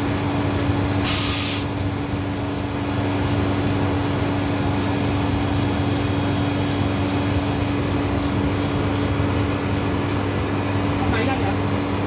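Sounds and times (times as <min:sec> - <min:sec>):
refrigeration unit humming: 0:00.0 - 0:12.0.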